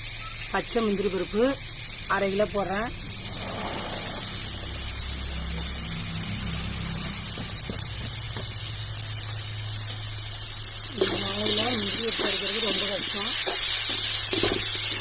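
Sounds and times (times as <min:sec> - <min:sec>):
hot oil sizzling in a pan: 0:00.0 - 0:15.0.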